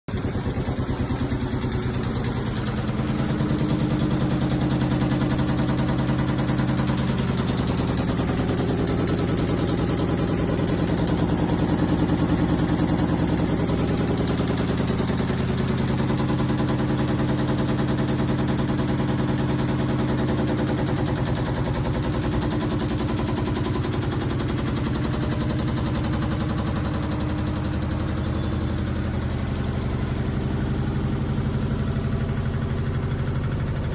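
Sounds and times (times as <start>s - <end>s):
washing machine running: 0.1s - 33.9s.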